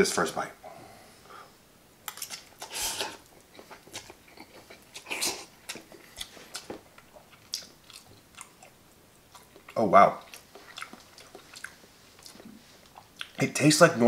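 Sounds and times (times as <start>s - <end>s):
chewing: 2.1s - 13.4s.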